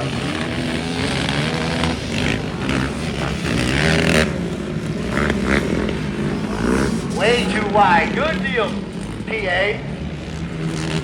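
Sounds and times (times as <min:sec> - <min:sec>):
racing engines revving: 0:00.0 - 0:11.0.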